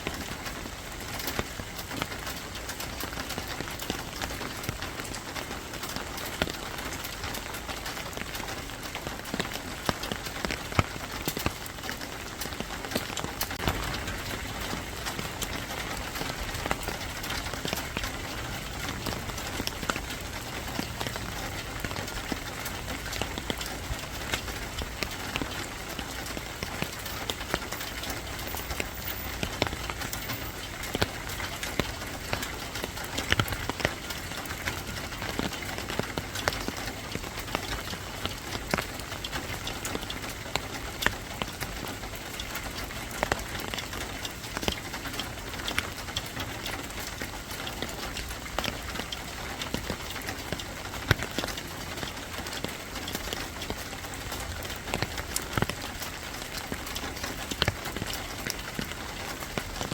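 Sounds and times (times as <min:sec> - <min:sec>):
drops dripping on a surface: 0:00.0 - 0:59.9
steady rain: 0:00.0 - 0:59.9.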